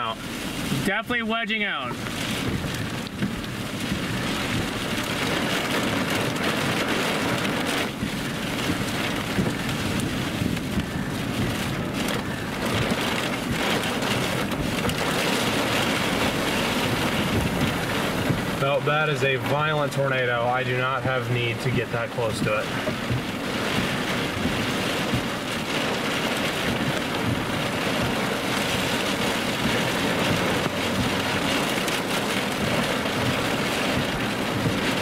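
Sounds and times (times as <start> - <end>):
rain: 0.0 - 35.0
wind: 0.0 - 35.0.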